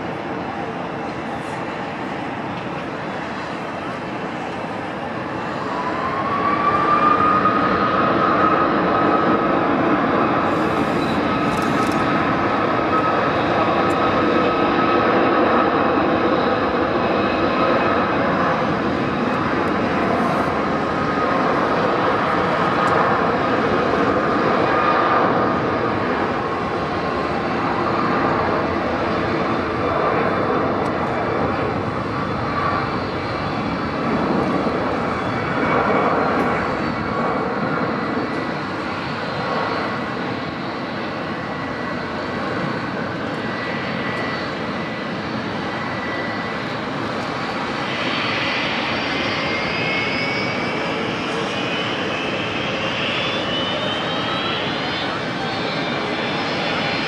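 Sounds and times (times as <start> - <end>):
jet airliner taking off: 0.0 - 57.0.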